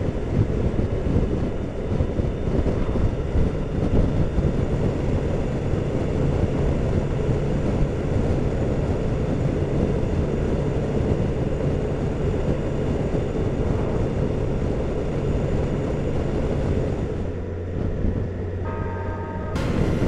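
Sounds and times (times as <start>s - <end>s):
rush of riding noise: 0.0s - 20.0s.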